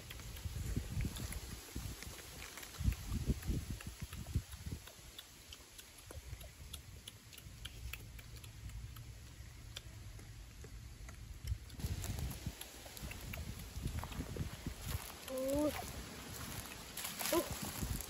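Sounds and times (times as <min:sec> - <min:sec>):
faint irregular ticks and clicks: 0:00.0 - 0:17.1.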